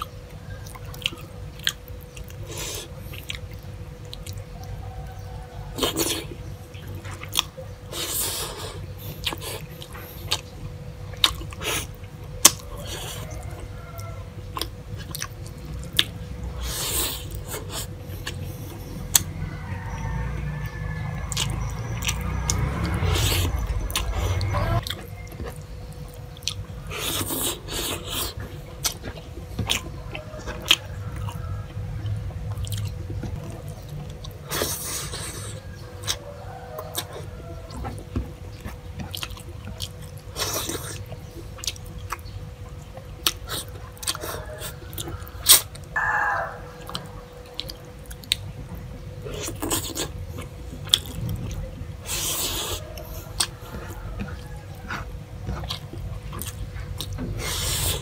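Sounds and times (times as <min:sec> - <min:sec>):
person chewing food: 0:00.0 - 0:04.9, 0:05.6 - 0:58.0
faint steady hum: 0:00.0 - 0:58.0.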